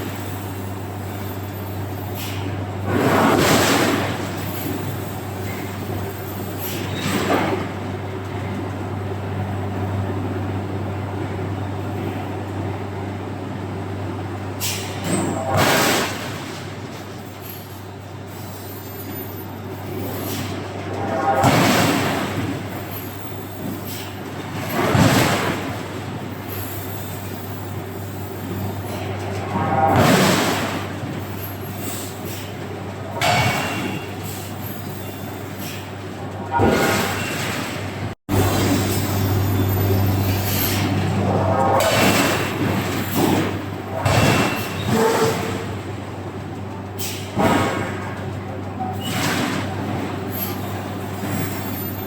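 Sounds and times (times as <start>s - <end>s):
machinery clattering bursts: 0.0s - 10.0s, 14.3s - 52.0s
machinery humming: 0.0s - 52.0s.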